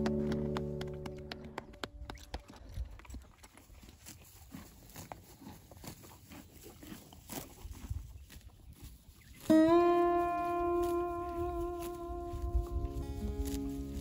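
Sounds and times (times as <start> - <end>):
horse chewing grass: 2.1 - 14.0.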